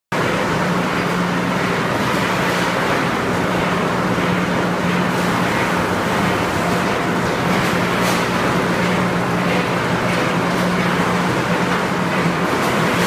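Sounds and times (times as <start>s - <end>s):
conveyors running: 0.2s - 13.0s.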